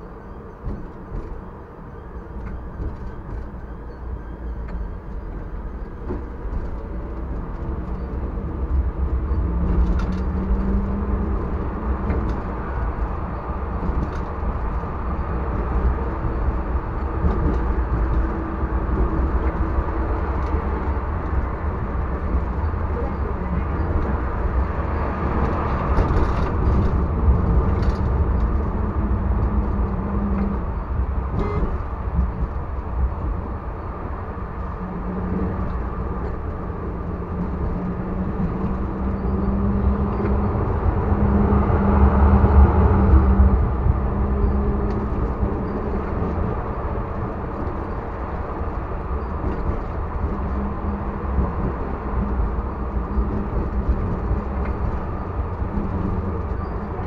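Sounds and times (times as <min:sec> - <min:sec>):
tram rumble: 0:00.0 - 0:57.0.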